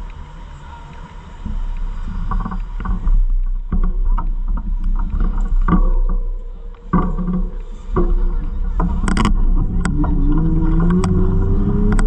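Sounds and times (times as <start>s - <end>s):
wind rumbling on microphone: 0.0s - 12.0s
rattles and knocks: 1.4s - 12.0s.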